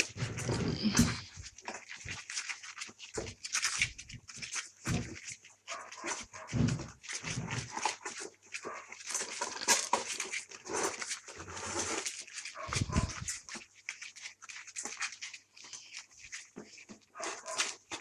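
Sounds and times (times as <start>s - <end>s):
puppies chewing and smacking: 0.0s - 18.0s.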